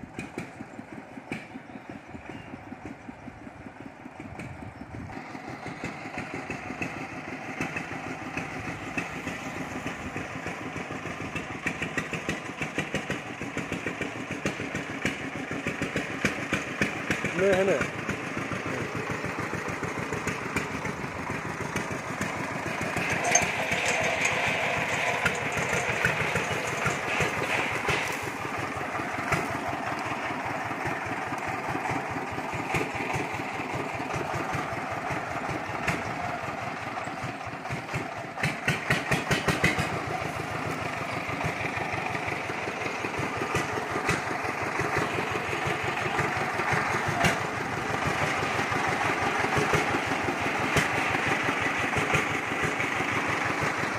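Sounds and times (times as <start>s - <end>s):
diesel engine pulsing: 0.0s - 53.9s.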